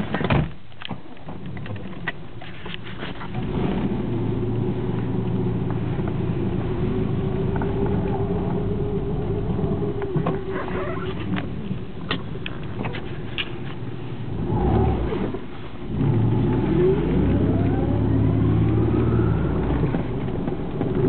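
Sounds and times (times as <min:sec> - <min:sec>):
car engine running: 0:03.2 - 0:21.0.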